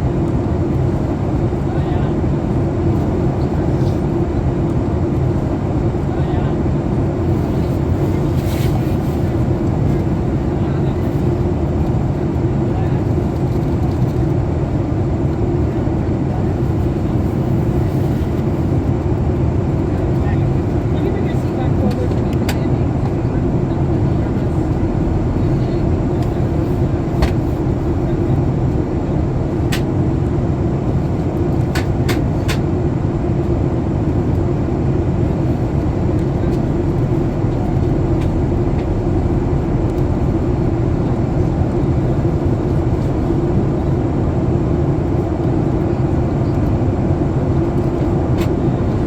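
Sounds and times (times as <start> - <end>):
airplane cabin engine rumble: 0.0 - 49.0.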